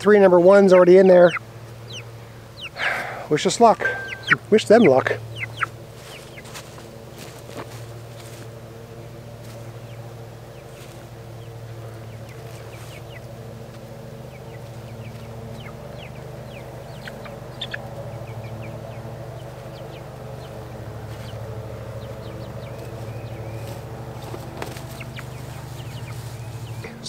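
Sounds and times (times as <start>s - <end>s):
steady low hum: 0.0s - 27.0s
young chickens chirping: 0.0s - 27.0s.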